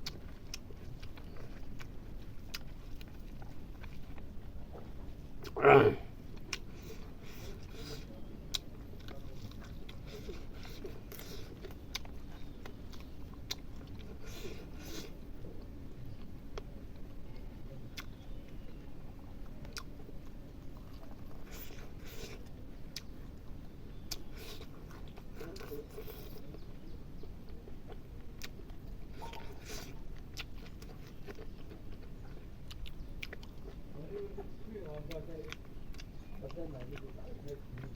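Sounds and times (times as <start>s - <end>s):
crunchy chewing: 0.0s - 37.9s
low background noise: 0.0s - 37.9s
person chewing food: 0.0s - 37.9s.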